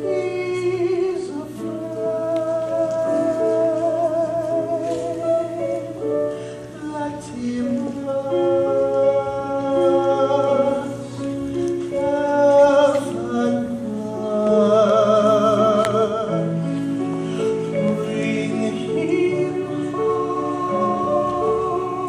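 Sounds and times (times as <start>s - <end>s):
musical theatre singing: 0.0s - 22.0s
slow accompaniment: 0.0s - 22.0s.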